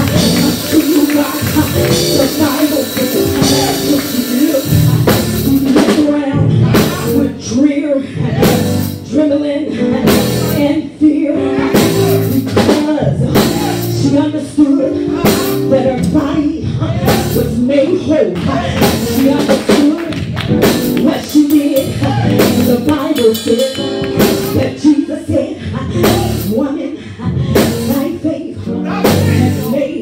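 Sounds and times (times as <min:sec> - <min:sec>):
live band with drums bass guitar: 0:00.0 - 0:07.5, 0:08.2 - 0:09.2, 0:10.0 - 0:10.8, 0:11.4 - 0:14.2, 0:15.0 - 0:24.9, 0:26.0 - 0:26.6, 0:27.5 - 0:28.2, 0:28.9 - 0:29.9
person singing through pa: 0:00.0 - 0:20.2, 0:20.9 - 0:30.0.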